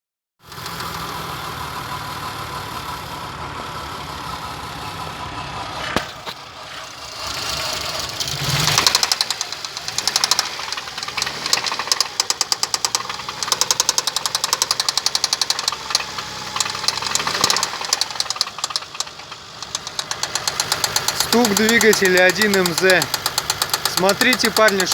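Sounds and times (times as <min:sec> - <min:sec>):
car engine running: 0:00.4 - 0:24.9
rapid rhythmic engine knocking: 0:00.5 - 0:24.9.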